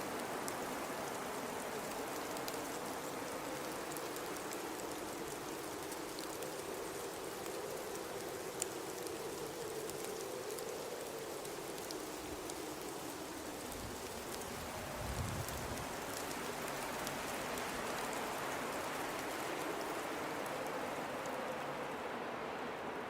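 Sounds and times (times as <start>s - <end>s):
blizzard wind howling: 0.0s - 23.0s
faint ticks: 0.1s - 21.6s.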